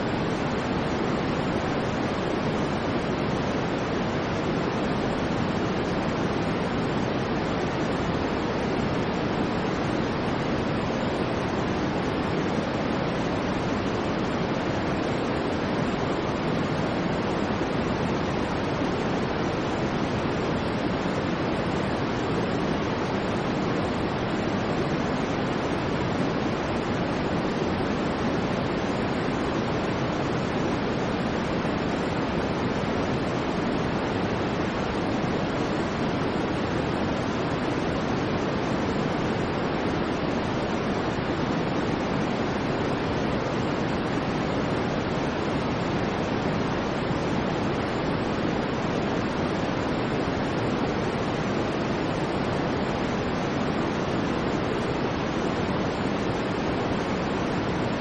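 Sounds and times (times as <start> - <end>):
low white noise rush: 0.0 - 58.0.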